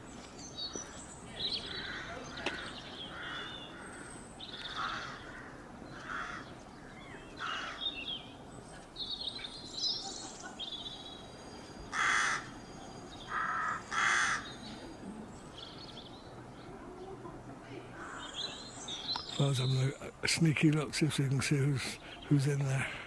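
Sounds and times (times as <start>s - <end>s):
birds chattering: 0.0s - 23.0s
birds harsh calls: 0.0s - 23.0s.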